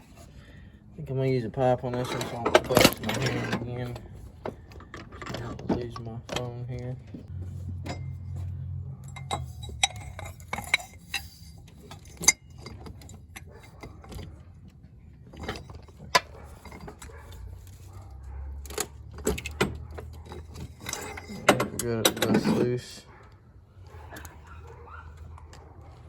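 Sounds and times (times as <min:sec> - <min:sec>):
metal tools clinking on bolt: 0:01.2 - 0:26.0.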